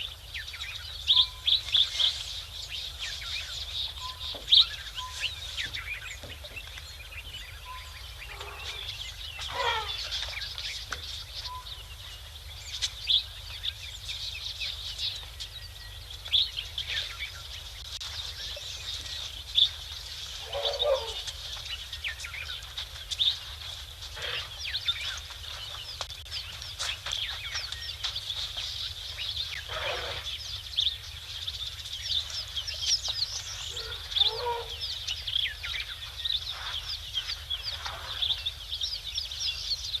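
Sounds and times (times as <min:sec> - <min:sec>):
downward sweeping bird calls: 0:00.0 - 0:40.0.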